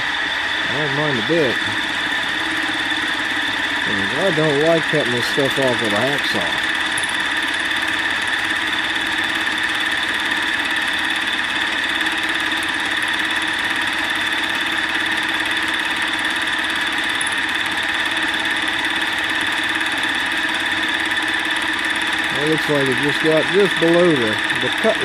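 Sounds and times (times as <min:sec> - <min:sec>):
milling machine whine: 0:00.0 - 0:25.0.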